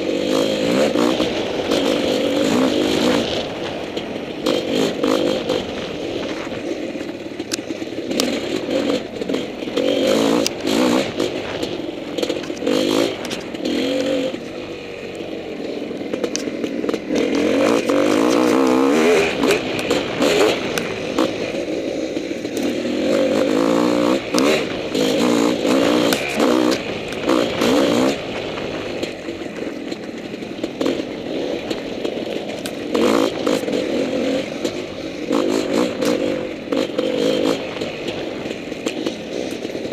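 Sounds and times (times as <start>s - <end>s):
bike rattling over ground: 0.0s - 39.9s
dirt bike engine revving: 0.0s - 39.9s.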